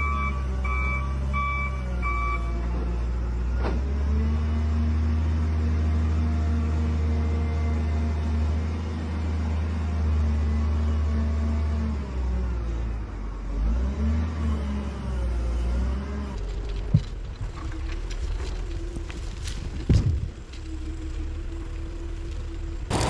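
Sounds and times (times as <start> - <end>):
diesel engine revving: 0.0 - 16.8, 20.2 - 23.0.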